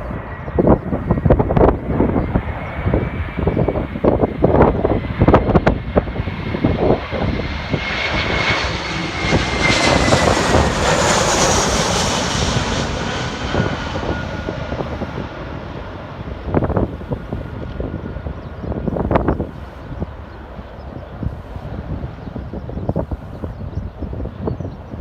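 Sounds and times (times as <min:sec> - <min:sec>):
jet airliner engine noise: 0:00.0 - 0:25.0
wind buffeting microphone: 0:00.0 - 0:25.0.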